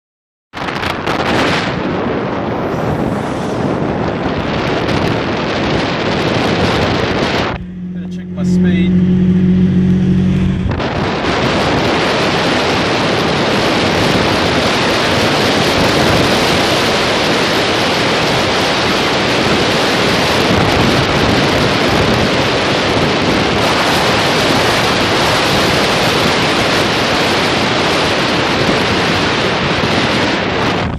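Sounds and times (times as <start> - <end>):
wind buffeting microphone: 0.6 - 30.9
car engine hum: 1.2 - 30.9.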